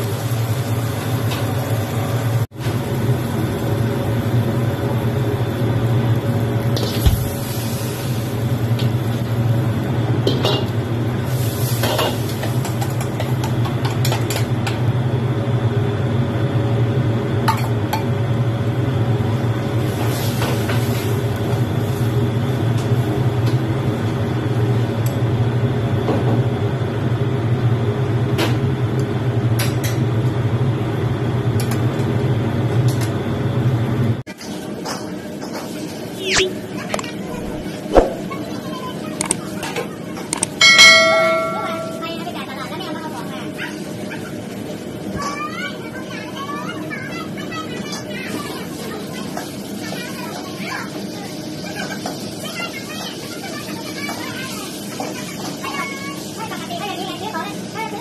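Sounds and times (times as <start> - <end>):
low kitchen hum: 0.0 - 58.0.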